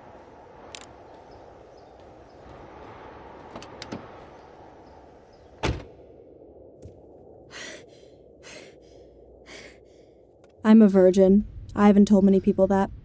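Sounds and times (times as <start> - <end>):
open-air background: 0.0 - 13.0.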